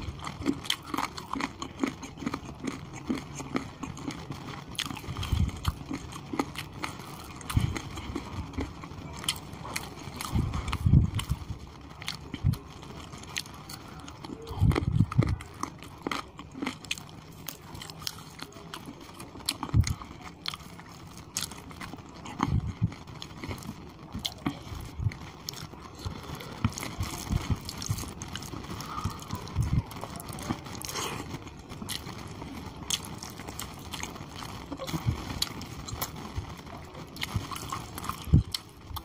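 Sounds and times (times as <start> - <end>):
chewing with mouth clicks: 0.0 - 39.0.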